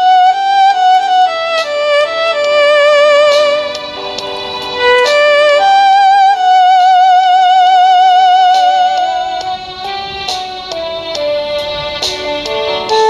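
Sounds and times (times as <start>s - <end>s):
accompaniment chords: 0.0s - 13.0s
electronic wind instrument melody: 0.0s - 13.0s.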